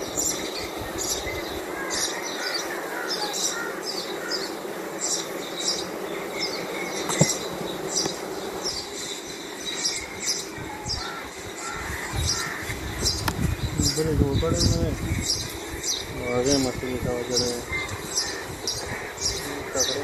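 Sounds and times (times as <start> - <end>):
honey bees humming: 0.0 - 20.0.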